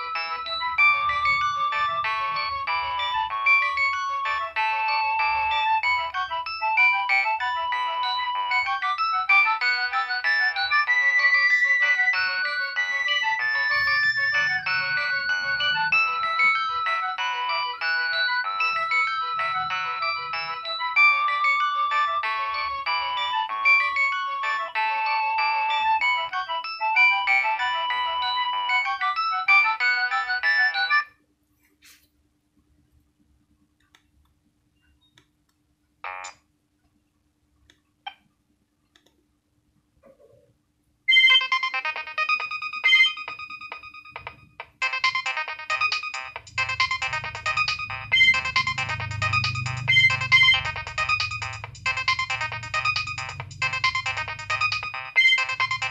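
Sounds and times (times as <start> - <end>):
mobile phone ringtone melody: 0.0 - 31.1, 41.1 - 55.9.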